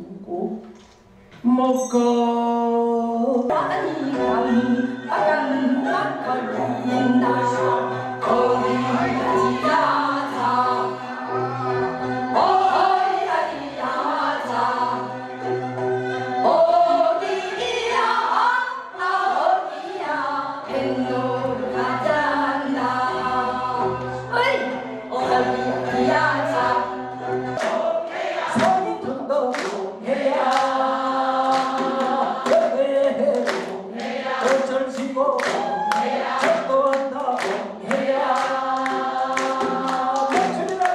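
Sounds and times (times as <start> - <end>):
group singing traditional song: 3.3 - 40.9.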